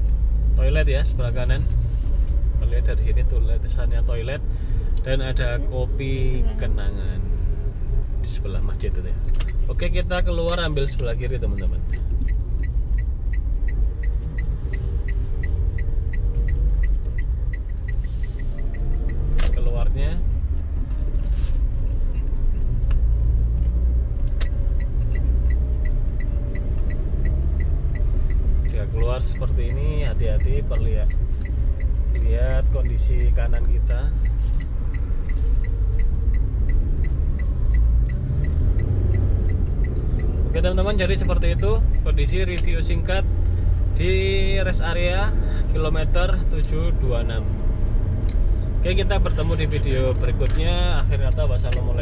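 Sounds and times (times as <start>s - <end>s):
low rumble of engine and tyres: 0.0s - 52.0s
turn signal ticking: 0.0s - 52.0s.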